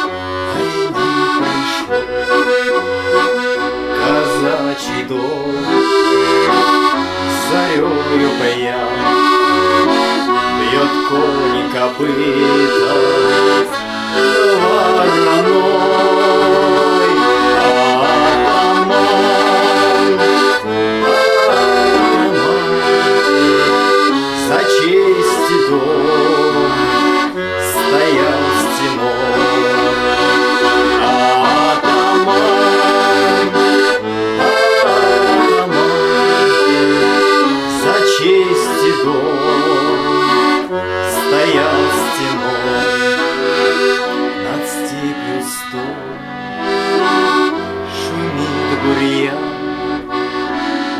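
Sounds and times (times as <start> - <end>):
accordion playing: 0.0 - 50.9.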